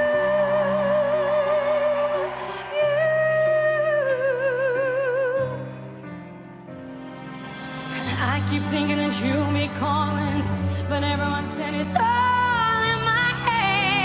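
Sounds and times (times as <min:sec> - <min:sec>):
woman singing with vibrato: 0:00.0 - 0:05.8, 0:08.0 - 0:14.0
soft instrumental accompaniment: 0:00.0 - 0:14.0.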